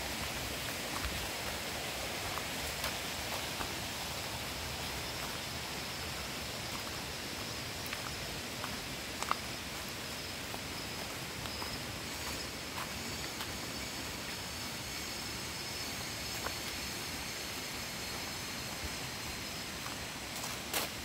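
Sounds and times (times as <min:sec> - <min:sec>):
footsteps on dry leaf litter: 0:00.0 - 0:14.4, 0:18.1 - 0:21.0
high insect drone: 0:00.0 - 0:21.0
steady rainforest hiss: 0:00.0 - 0:21.0.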